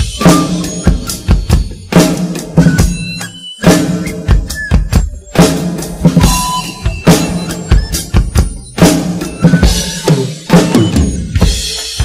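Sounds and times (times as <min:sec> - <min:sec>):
drum kit played with sticks: 0:00.0 - 0:12.0
pop backing track: 0:00.0 - 0:12.0.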